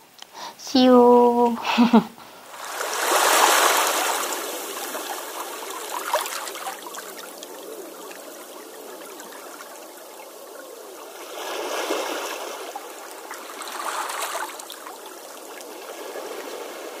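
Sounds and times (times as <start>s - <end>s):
water trickling: 2.4s - 17.0s.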